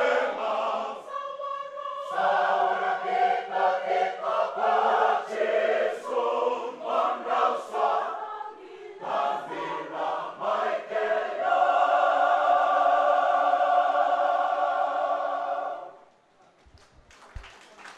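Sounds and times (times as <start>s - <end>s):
mixed choir singing: 0.0s - 16.1s.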